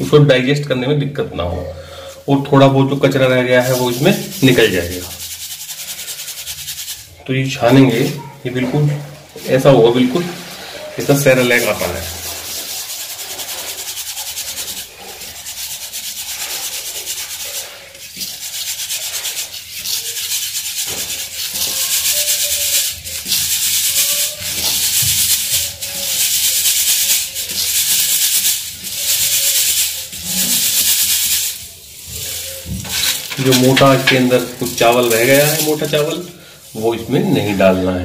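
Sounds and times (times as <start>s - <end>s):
metal sieve rattling powder: 2.8s - 37.8s.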